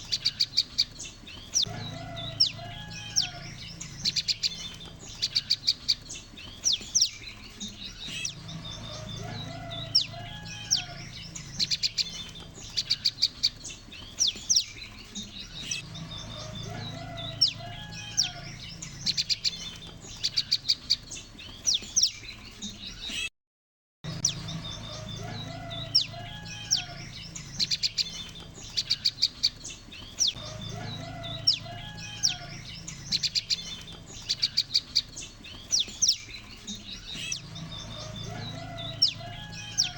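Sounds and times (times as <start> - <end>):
lower bird warbling: 0.0 - 21.0, 24.1 - 39.9
birds chirping and trilling: 0.0 - 23.3, 24.0 - 39.9.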